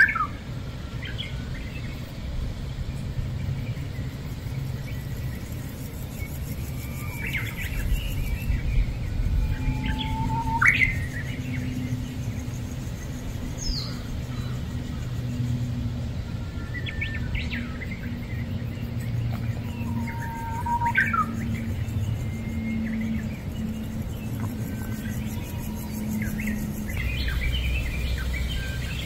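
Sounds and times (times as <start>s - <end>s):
birds chirping: 0.0s - 29.0s
steady low hum: 0.0s - 29.0s.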